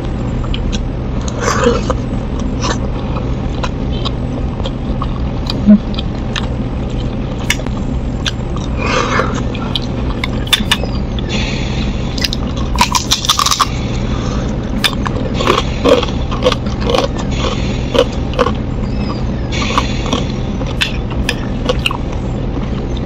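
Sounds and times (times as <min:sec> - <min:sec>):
crunchy chewing: 0:00.4 - 0:10.9, 0:12.2 - 0:23.0.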